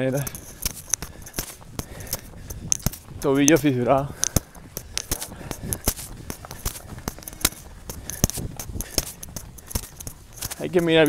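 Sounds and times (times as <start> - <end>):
running footsteps on dirt path: 0.0 - 11.0.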